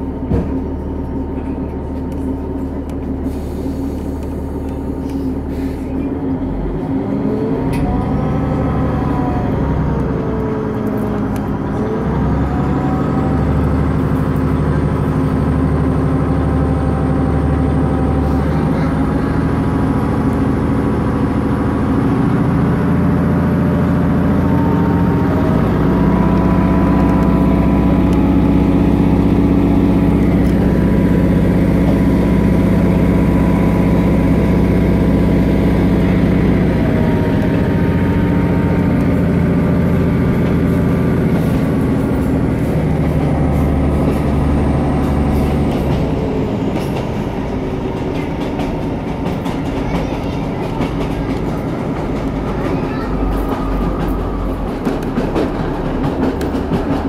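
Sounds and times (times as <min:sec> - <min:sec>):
diesel train engine droning: 0:00.0 - 0:57.0.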